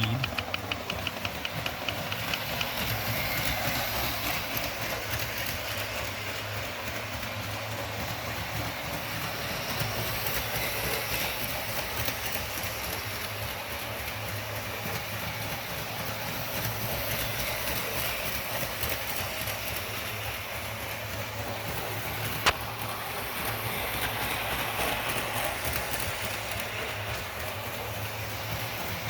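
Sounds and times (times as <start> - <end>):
toy train motor whir: 0.0 - 29.0
wheels clicking over track: 0.0 - 29.0.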